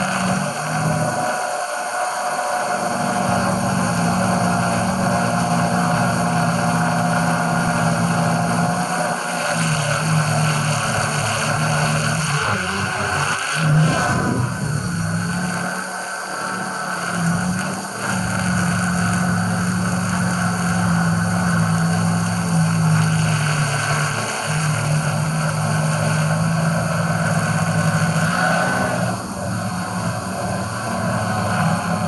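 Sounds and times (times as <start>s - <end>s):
drone propellers buzzing: 0.0s - 32.0s
steady rushing hiss: 0.0s - 32.0s.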